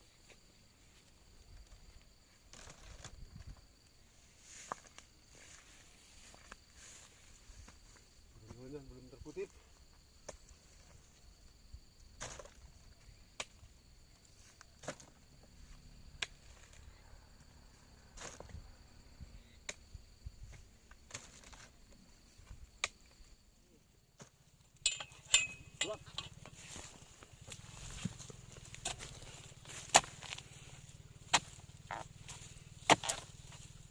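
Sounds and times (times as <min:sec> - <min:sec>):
insects trilling: 0:00.0 - 0:33.9.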